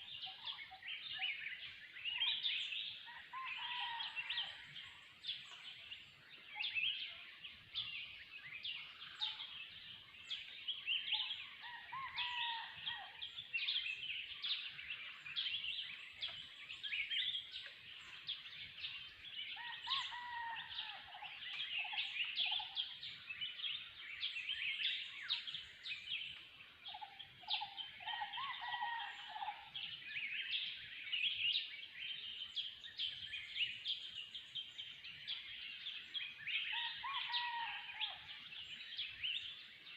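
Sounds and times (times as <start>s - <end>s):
birds chirping and calling: 0.0s - 39.9s
lower mellow bird calls: 0.0s - 39.9s.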